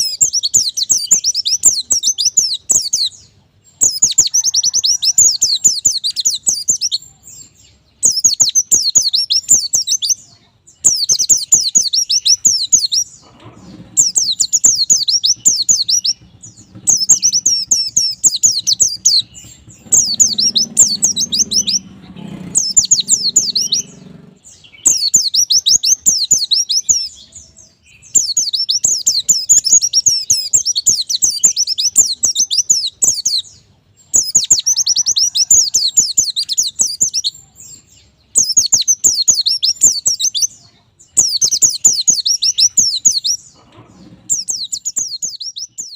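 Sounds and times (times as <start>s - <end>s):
bird twittering: 0.0s - 45.9s.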